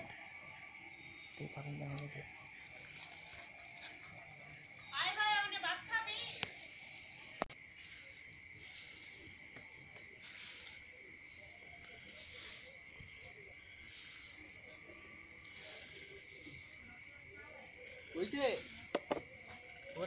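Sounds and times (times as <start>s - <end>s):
crickets and insects droning: 0.0s - 20.0s.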